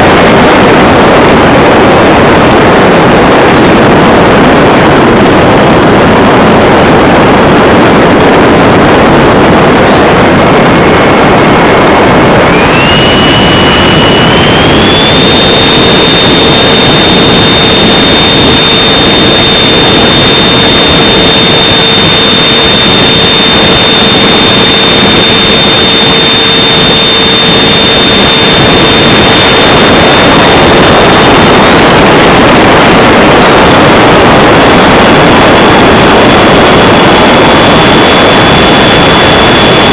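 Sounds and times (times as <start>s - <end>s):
electric ducted fan whine: 0.0s - 39.9s
rushing air noise: 0.0s - 39.9s.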